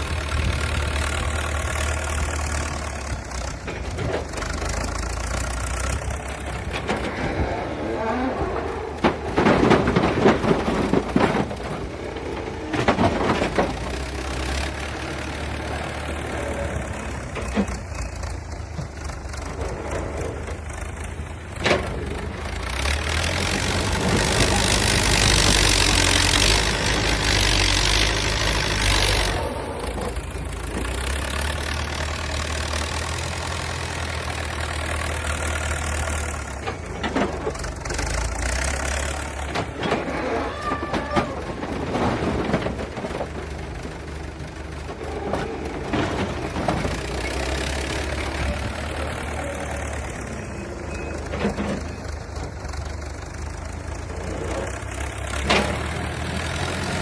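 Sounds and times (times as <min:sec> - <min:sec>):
knocks and clunks: 0:00.0 - 0:31.2, 0:33.1 - 0:53.1
diesel engine under load: 0:00.0 - 0:57.0.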